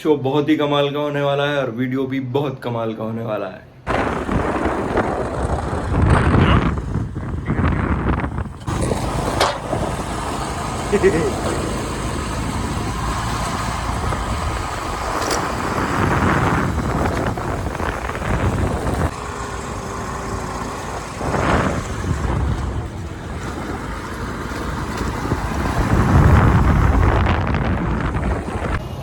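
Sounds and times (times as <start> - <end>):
wind rumbling on microphone: 3.9 - 19.2, 20.1 - 29.0
road traffic noise: 3.9 - 29.0.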